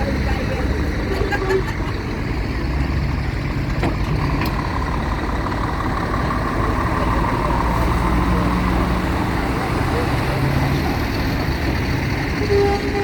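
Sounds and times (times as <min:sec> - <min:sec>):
heavy vehicle engines running: 0:00.0 - 0:13.0.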